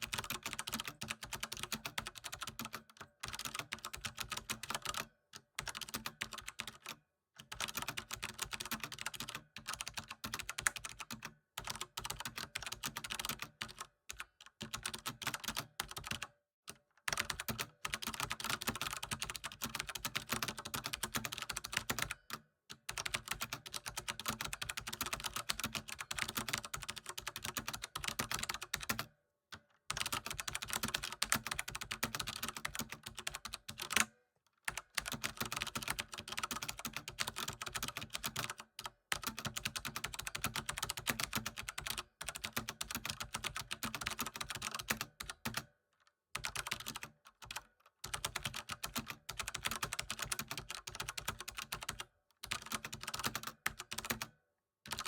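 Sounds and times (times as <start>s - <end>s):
keyboard typing: 0.0s - 13.8s, 14.6s - 16.3s, 17.1s - 22.2s, 22.9s - 29.1s, 29.9s - 34.1s, 34.7s - 45.7s, 46.4s - 54.3s.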